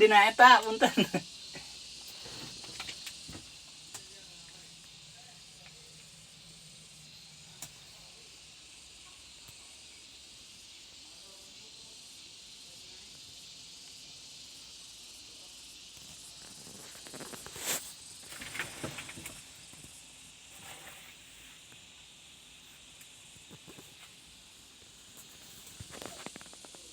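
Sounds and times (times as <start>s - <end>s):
high-pitched hiss: 0.0s - 26.9s.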